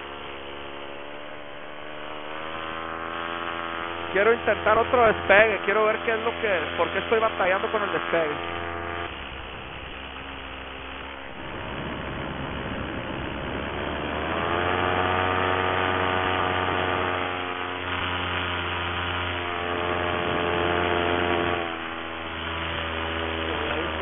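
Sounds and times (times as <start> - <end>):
paramotor engine and propeller: 0.0 - 24.0.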